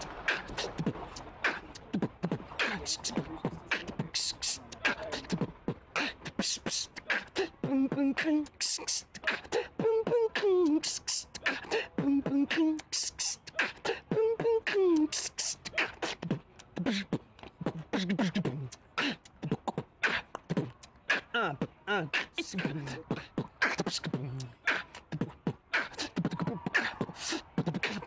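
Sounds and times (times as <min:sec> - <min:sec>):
beatboxing hisses and clicks: 0:00.0 - 0:28.0.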